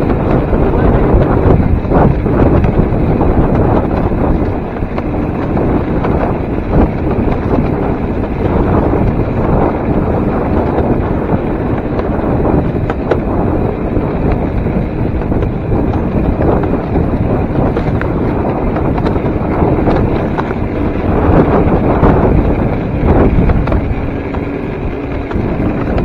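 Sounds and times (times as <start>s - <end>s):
railcart rolling on rails: 0.0s - 26.0s
wind buffeting microphone: 0.0s - 26.0s.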